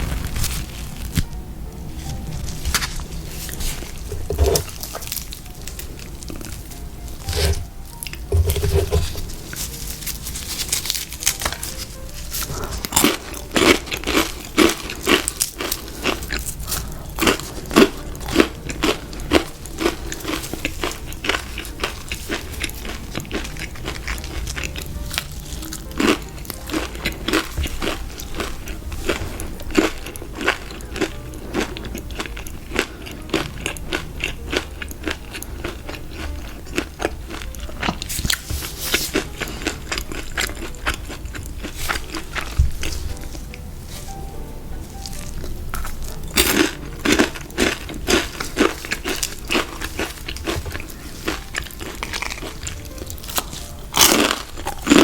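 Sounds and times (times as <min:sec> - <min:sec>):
crunching crispy food: 0:00.0 - 0:01.4, 0:02.0 - 0:44.2, 0:44.8 - 0:55.0
quiet chewing: 0:02.0 - 0:55.0.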